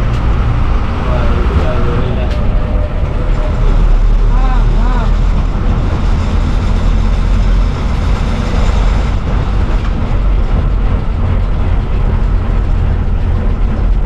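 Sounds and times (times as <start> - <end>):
bus diesel engine humming: 0.0 - 14.0
road and body noise: 0.0 - 14.0.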